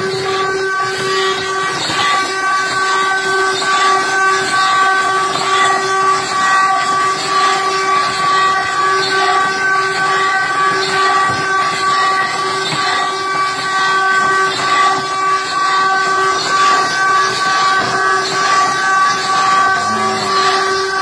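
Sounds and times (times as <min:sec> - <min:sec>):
ox cart axle whistling drone: 0:00.0 - 0:21.0.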